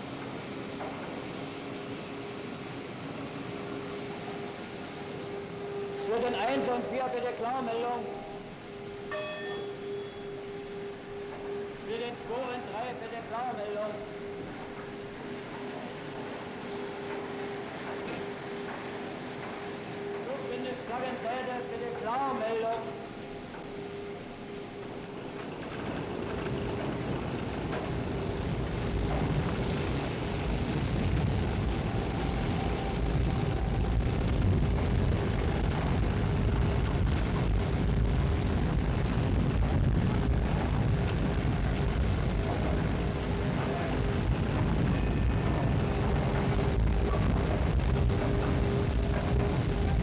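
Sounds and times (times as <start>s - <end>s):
industrial winches rumbling: 3.0s - 50.0s.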